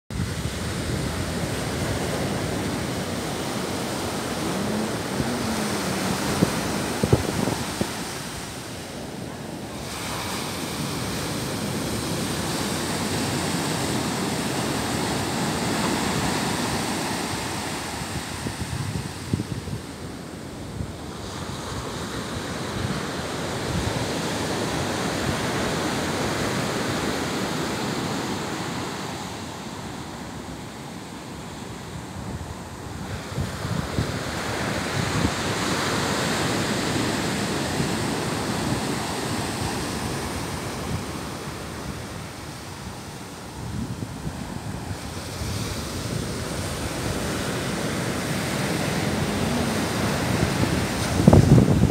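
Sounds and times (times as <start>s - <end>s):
wind buffeting microphone: 0.1s - 29.2s, 29.8s - 51.9s
ocean surf breaking on beach: 0.1s - 51.9s.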